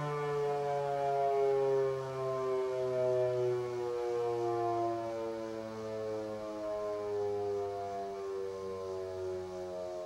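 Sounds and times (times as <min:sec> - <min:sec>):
warning siren winding down: 0:00.0 - 0:10.0.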